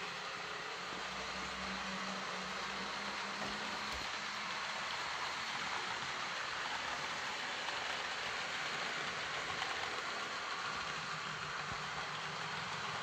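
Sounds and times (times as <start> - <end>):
model train rolling: 0.0 - 13.0.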